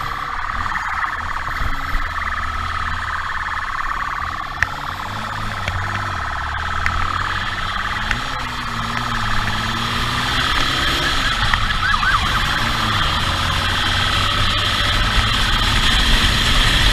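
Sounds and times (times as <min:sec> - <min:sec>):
police siren warbling: 0:00.0 - 0:16.9
vehicle engine running: 0:00.0 - 0:16.9.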